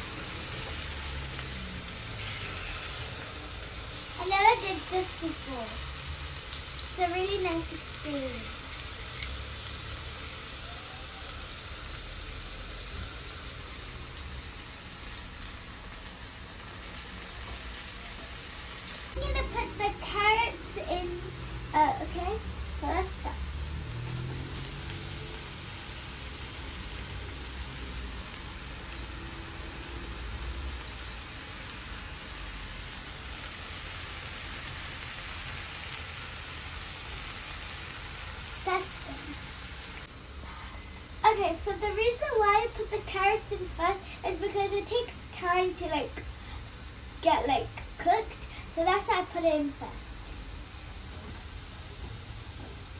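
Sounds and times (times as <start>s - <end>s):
chicken sizzling in a frying pan: 0.0s - 52.9s.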